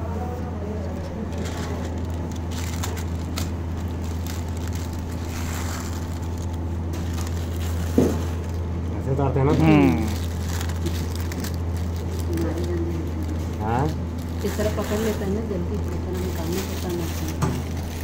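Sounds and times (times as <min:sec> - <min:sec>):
steady low hum: 0:00.0 - 0:18.0
plastic film crackling and crinkling: 0:01.0 - 0:18.0.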